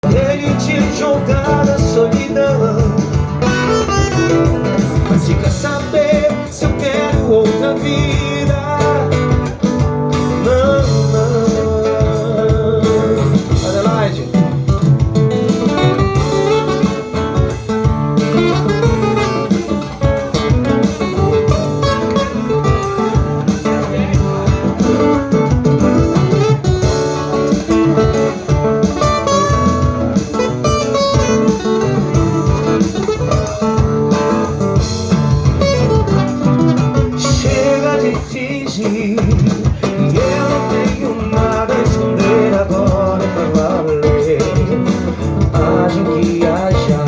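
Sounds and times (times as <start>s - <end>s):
guitar playing: 0.0s - 47.0s
rhythm section beat: 0.0s - 47.0s.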